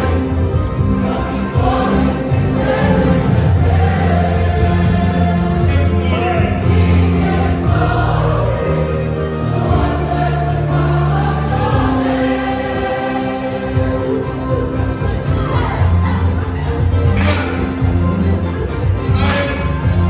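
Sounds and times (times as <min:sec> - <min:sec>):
choir singing a hymn: 0:00.0 - 0:20.0
low steady accompaniment: 0:00.0 - 0:20.0.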